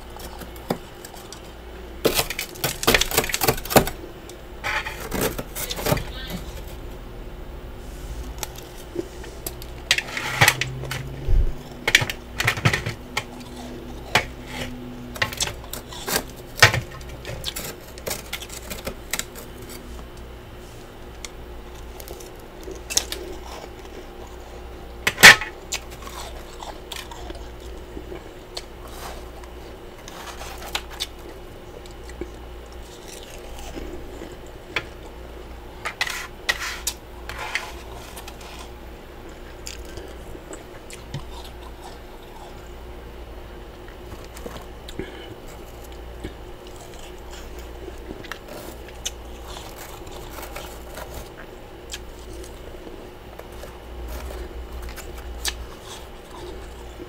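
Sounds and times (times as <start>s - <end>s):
frost being chewed crunching: 0.0s - 7.1s, 7.8s - 57.0s.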